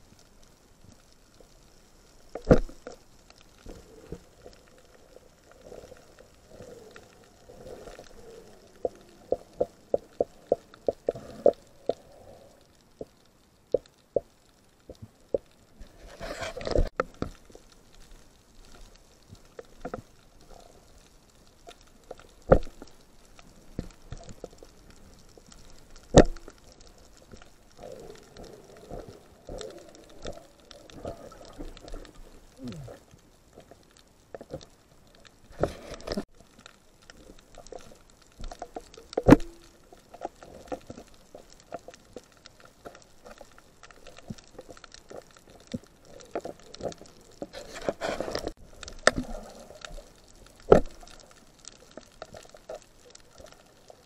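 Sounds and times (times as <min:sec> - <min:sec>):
muffled underwater movement: 0:00.0 - 0:54.0.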